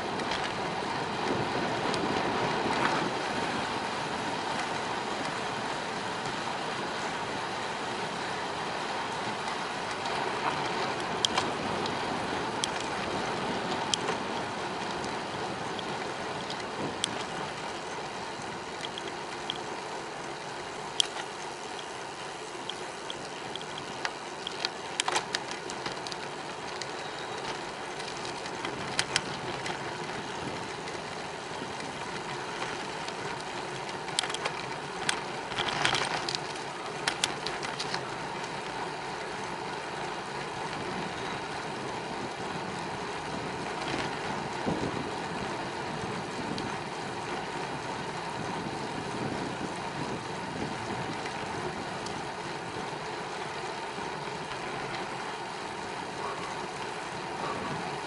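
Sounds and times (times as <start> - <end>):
bicycle tyres and wind rushing: 0.0 - 58.0
bike clicks and rattles: 0.0 - 58.0.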